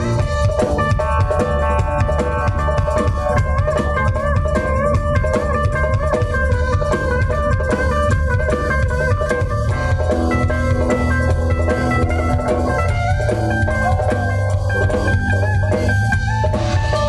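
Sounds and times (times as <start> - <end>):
bass guitar: 0.0 - 17.0
drum kit playing: 0.0 - 17.0
electric guitar sustained notes: 0.0 - 17.0.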